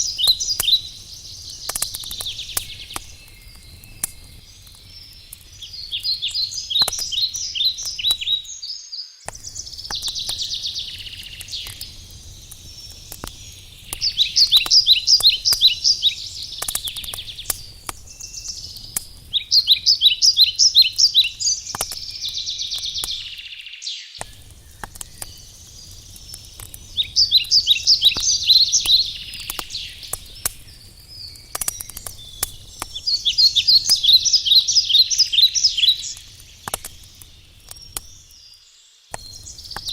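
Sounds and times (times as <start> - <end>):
campfire crackling and popping: 0.0 - 8.6, 9.2 - 23.6, 24.2 - 39.9
songbird trilling: 0.0 - 11.9, 12.8 - 25.4, 26.9 - 36.7.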